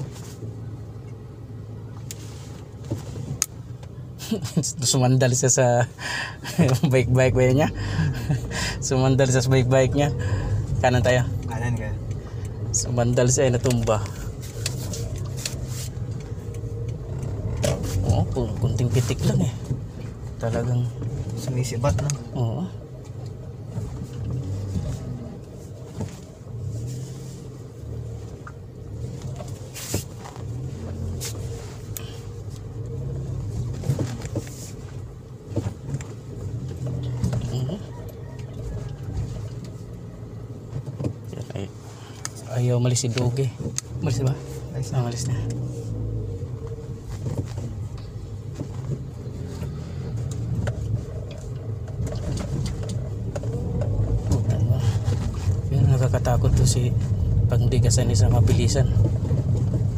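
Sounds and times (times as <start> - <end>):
car engine hum: 0.0 - 59.9
road noise: 0.0 - 59.9.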